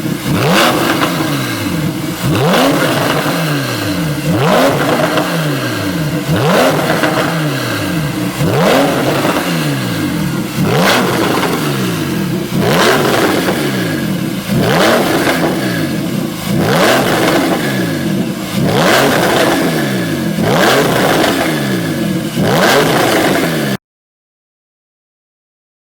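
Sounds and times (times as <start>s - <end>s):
car engine revving: 0.0s - 23.8s.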